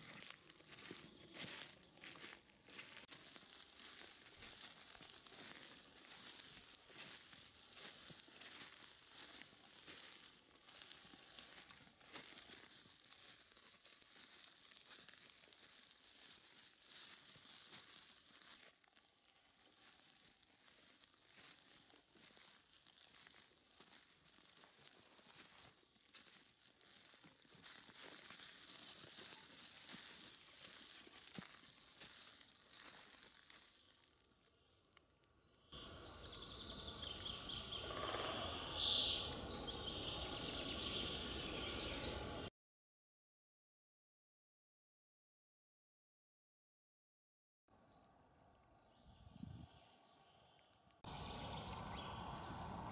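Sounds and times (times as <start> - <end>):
birds calling: 0.0 - 34.0, 35.8 - 42.5, 50.3 - 52.9
crackling of dry leaves and twigs: 0.0 - 42.5, 47.7 - 52.9
outdoor background: 0.0 - 42.5, 47.7 - 52.9.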